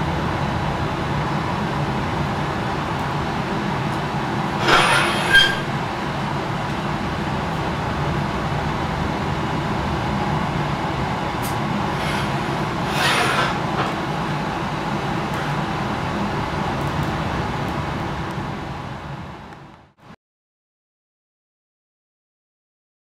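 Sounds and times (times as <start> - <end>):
gas burner roaring: 0.0 - 20.0.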